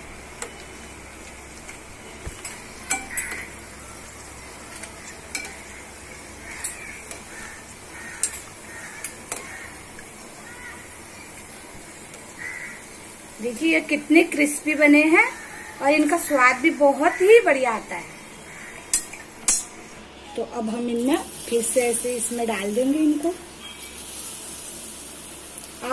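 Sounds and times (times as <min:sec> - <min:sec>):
hot oil sizzling: 0:00.0 - 0:20.1, 0:20.8 - 0:25.9.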